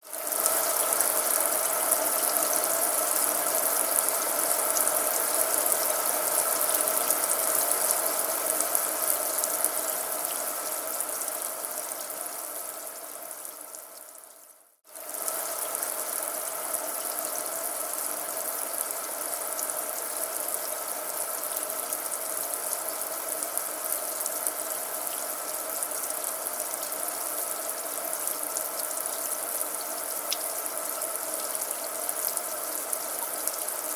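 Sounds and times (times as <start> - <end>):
steady rain: 0.0 - 14.3, 14.9 - 33.9.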